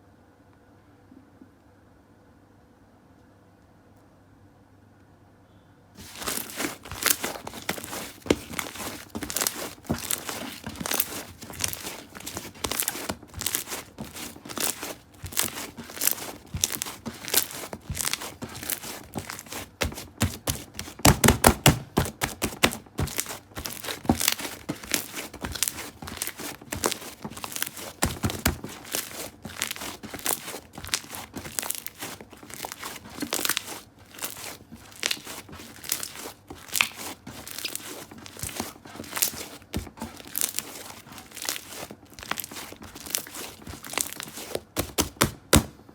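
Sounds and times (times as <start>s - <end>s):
hands squishing slime: 6.0s - 45.7s.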